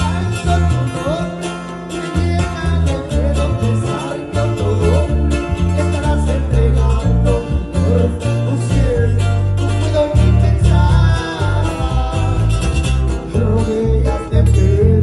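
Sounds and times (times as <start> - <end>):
bass line: 0.0 - 15.0
guitars playing melody: 0.0 - 15.0.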